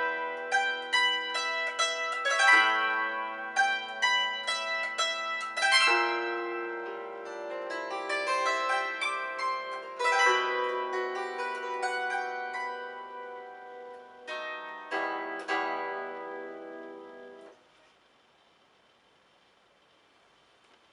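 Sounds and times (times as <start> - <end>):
plucked string instrument playing: 0.0 - 17.6.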